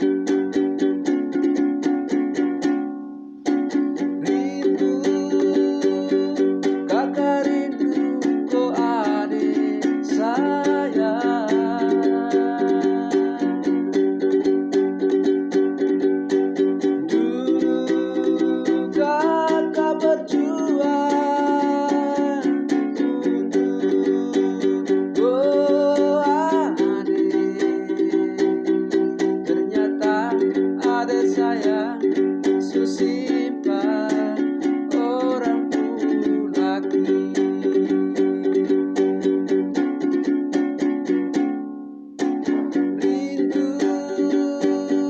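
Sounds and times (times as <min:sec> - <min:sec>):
sliding melody line: 0:00.0 - 0:45.0
strummed string instrument: 0:00.0 - 0:45.0.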